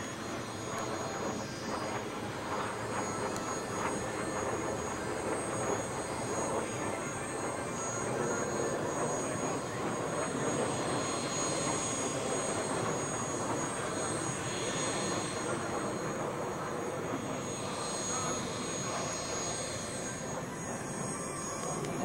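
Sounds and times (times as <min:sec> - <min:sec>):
distant jet engine noise: 0:00.0 - 0:22.0.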